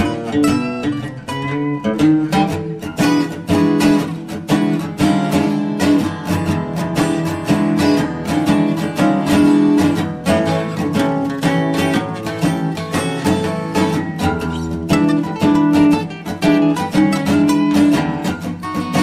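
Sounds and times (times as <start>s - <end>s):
acoustic guitar background music: 0.0s - 19.0s.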